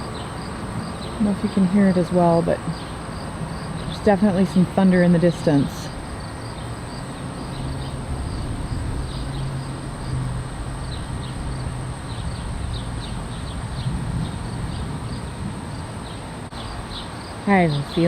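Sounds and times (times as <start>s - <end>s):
high insect drone: 0.0s - 18.0s
small birds chirping: 0.0s - 18.0s.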